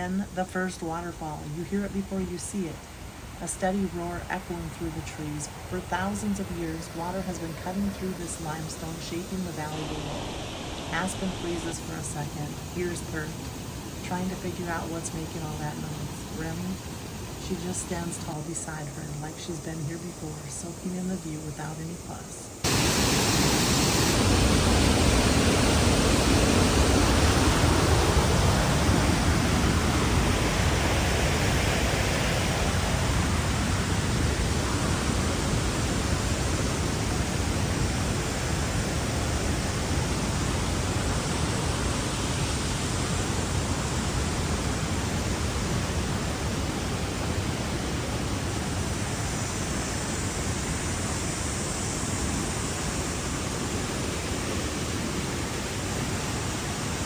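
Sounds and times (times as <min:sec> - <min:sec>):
waterfall roaring: 0:00.0 - 0:22.0, 0:22.6 - 0:57.0.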